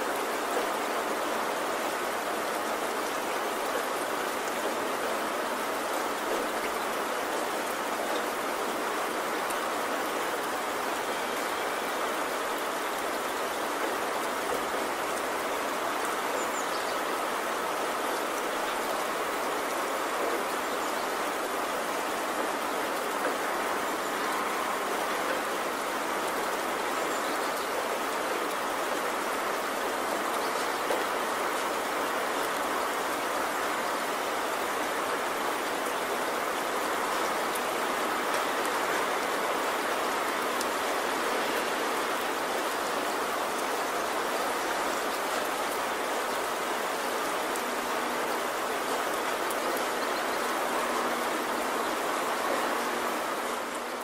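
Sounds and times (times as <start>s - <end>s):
rushing water hiss: 0.0s - 54.0s.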